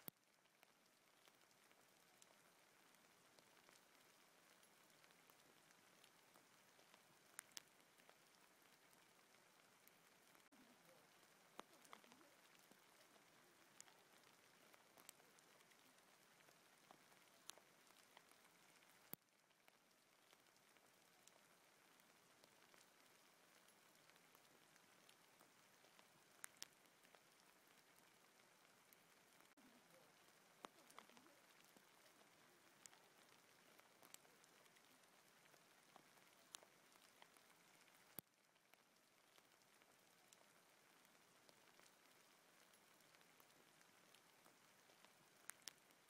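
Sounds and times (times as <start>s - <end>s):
hail pattering on forest floor: 0.0s - 46.0s.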